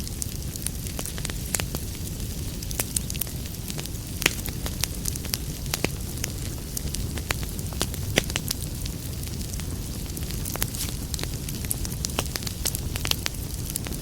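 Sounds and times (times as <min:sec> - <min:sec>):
low rumble of flame: 0:00.0 - 0:14.0
wood fire crackling: 0:00.0 - 0:14.0.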